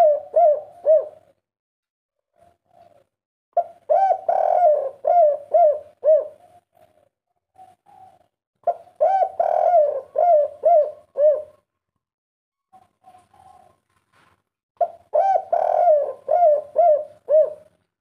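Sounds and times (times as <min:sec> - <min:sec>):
dove cooing: 0:00.0 - 0:01.4, 0:02.3 - 0:11.7, 0:12.6 - 0:14.0, 0:14.8 - 0:17.9.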